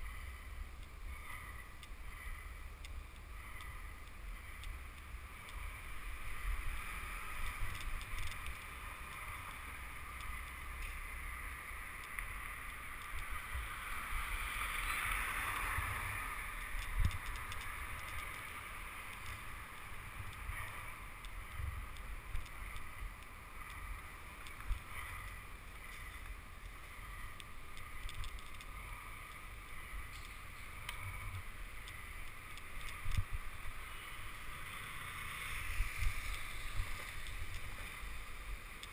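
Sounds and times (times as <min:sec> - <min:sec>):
bicycle road rumble on asphalt: 0:00.0 - 0:38.9.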